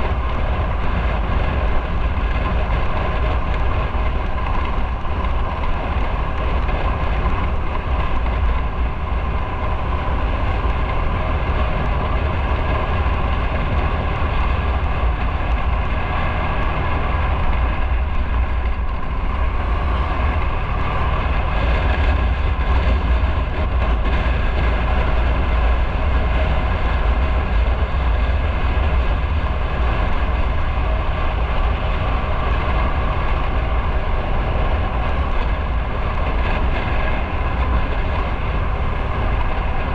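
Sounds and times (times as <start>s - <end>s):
motorcycle engine running: 0.0s - 39.9s
road rumble: 0.0s - 39.9s
wind noise on microphone: 0.0s - 39.9s.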